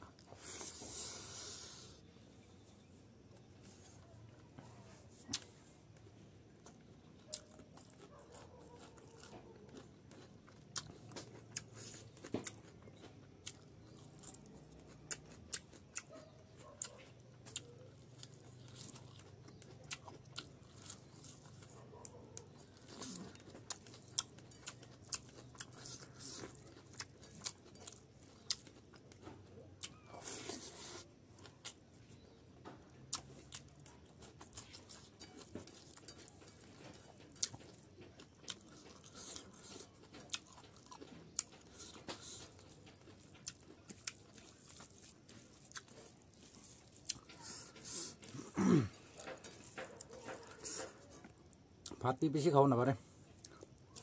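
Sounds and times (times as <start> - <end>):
chewing and crunching: 2.6 - 54.0.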